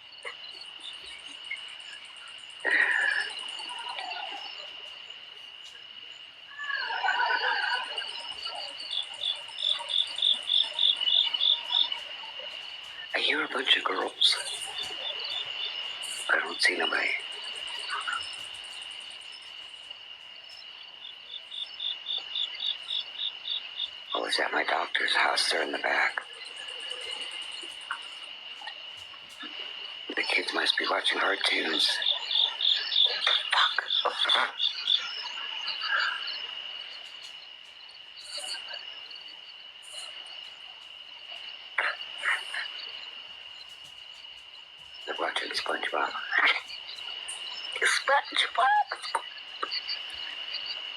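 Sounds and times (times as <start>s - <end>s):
insects chirping: 0.0s - 50.9s
insects droning: 0.0s - 50.9s.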